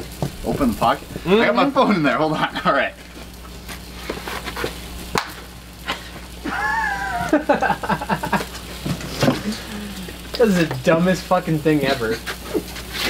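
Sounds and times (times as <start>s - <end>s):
food sizzling with pops: 0.0s - 13.0s
steady low hum: 0.0s - 13.0s.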